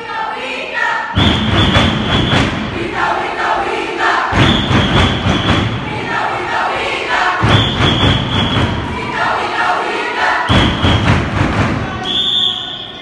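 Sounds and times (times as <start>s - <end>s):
group chanting together: 0.0s - 12.1s.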